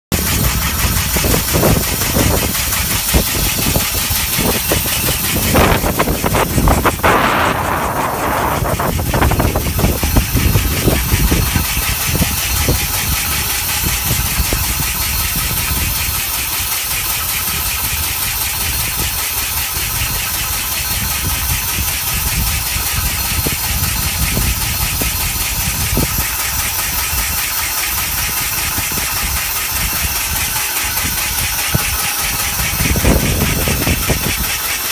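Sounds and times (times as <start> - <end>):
drill mechanical beat: 0.1 - 34.9.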